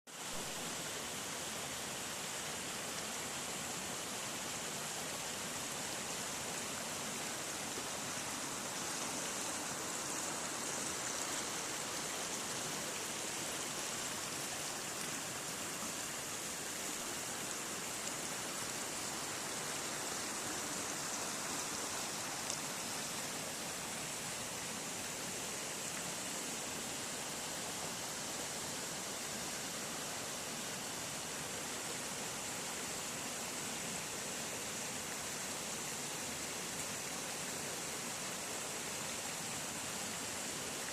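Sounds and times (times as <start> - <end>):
waterfall rushing: 0.4 - 33.4.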